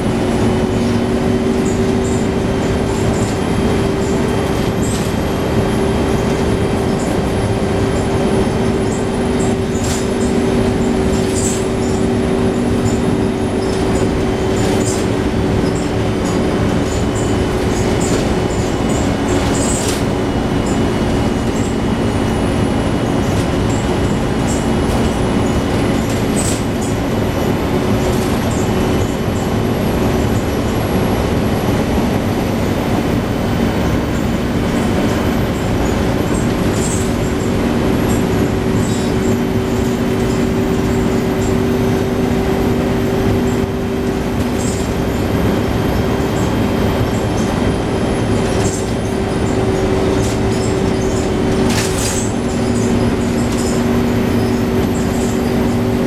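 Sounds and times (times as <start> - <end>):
bus engine drone: 0.0 - 56.0
light rattles of bus body: 0.0 - 56.0.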